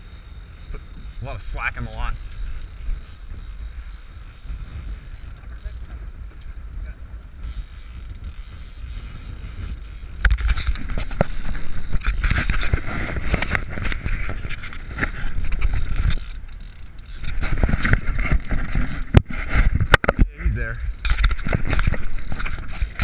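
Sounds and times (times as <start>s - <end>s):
fishing reel clicking whir: 0.0s - 19.2s, 20.7s - 23.0s
steady low rumble: 0.0s - 23.0s.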